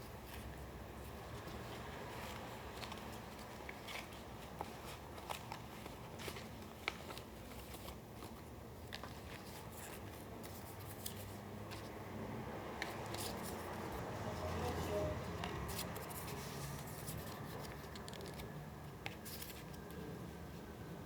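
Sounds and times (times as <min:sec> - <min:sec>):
paper crackling and tapping: 0:00.2 - 0:12.0, 0:12.7 - 0:20.1.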